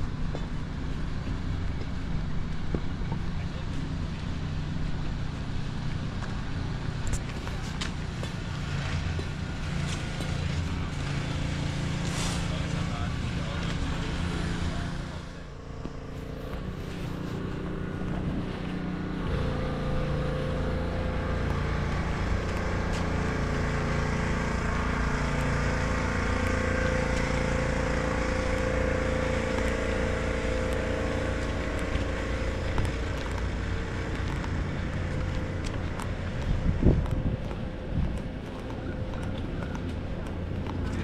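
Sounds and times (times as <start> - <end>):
street traffic: 0.0 - 41.0
vehicle engine humming: 0.0 - 41.0.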